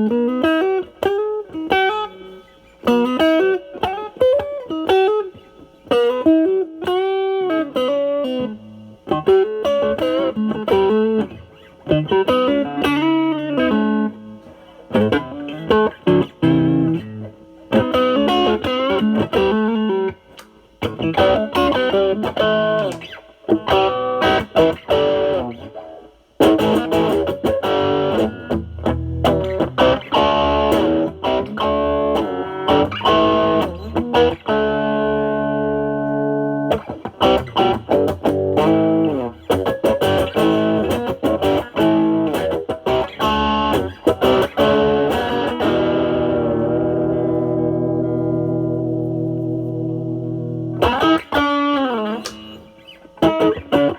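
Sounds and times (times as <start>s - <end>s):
overdriven electric guitar: 0.0s - 53.9s.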